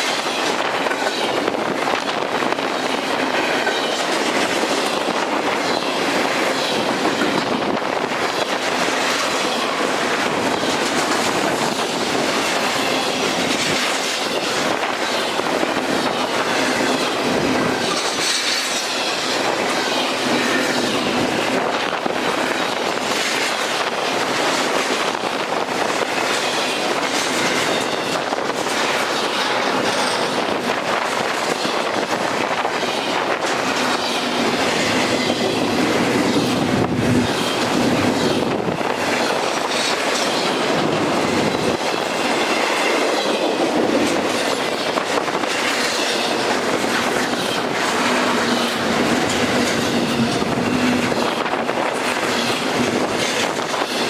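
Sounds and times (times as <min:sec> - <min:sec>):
freight cars rolling on rails: 0:00.0 - 0:54.0.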